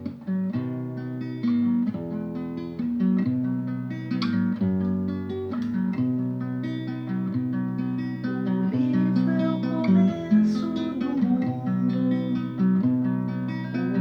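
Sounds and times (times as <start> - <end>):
plucked guitar music: 0.0 - 14.0.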